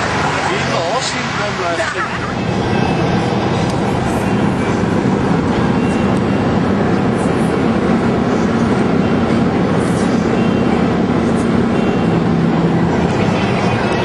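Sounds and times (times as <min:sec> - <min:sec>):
car engine drone: 0:00.0 - 0:14.0
road and wind noise: 0:00.0 - 0:14.0.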